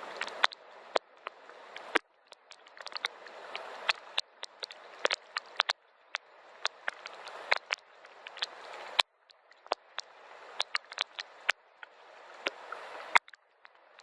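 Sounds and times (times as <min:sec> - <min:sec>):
gentle rain hiss: 0:00.0 - 0:14.0
raindrops striking close by: 0:00.0 - 0:14.0.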